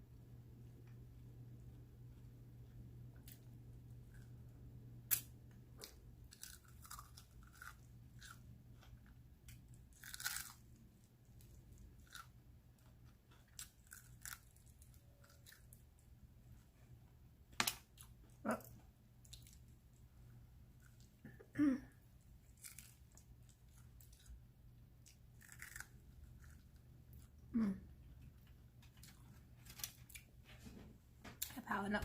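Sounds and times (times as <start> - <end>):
crunching and chewing: 1.6 - 16.6, 17.6 - 21.2, 22.2 - 30.7.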